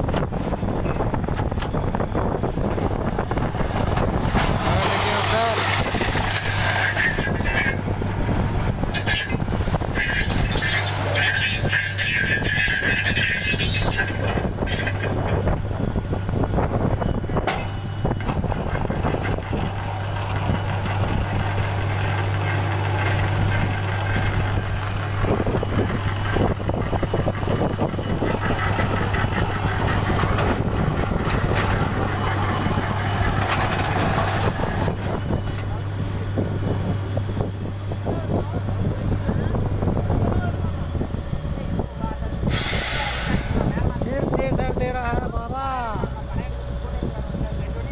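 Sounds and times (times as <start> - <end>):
drilling rig engine drone: 0.8 - 47.9.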